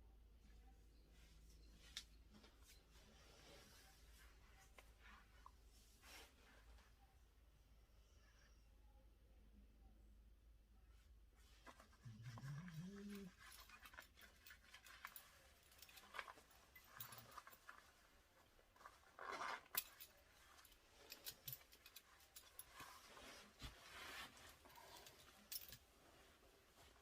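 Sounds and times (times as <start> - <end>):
faint rustles: 0.4 - 7.2, 11.0 - 27.0.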